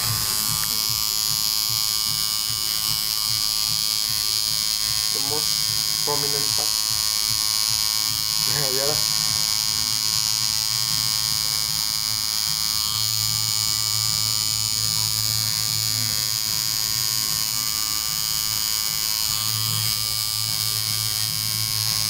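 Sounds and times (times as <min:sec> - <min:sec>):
tattoo machine buzzing: 0:00.0 - 0:22.0.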